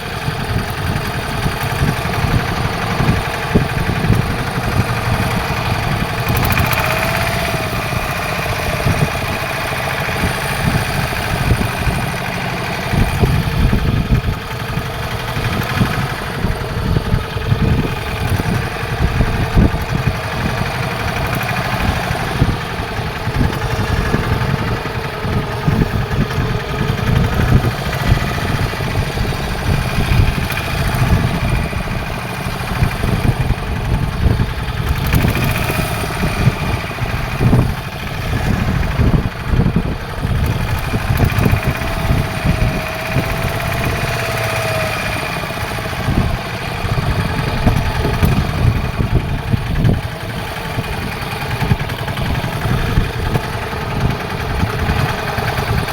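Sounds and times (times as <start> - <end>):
boat engine drone: 0.0 - 55.9.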